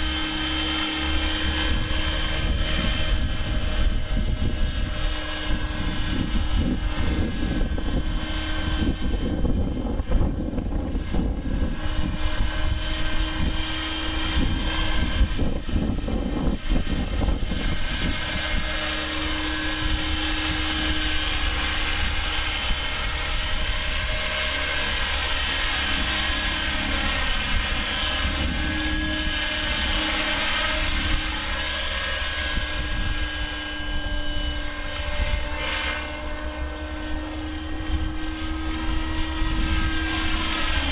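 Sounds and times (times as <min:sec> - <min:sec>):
helicopter rotor whine: 0:00.0 - 0:40.9
wind buffeting microphone: 0:00.0 - 0:40.9.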